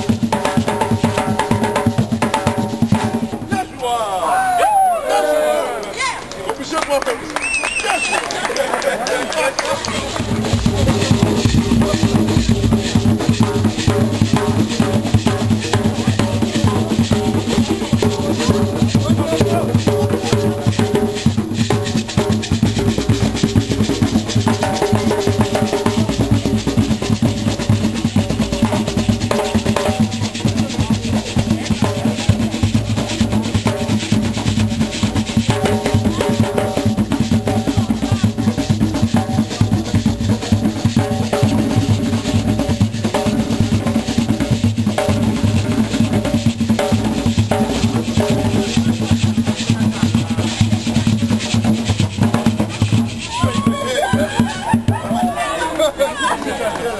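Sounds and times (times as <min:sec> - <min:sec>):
hand drums playing fast rhythm: 0:00.0 - 0:03.7, 0:09.5 - 0:56.4.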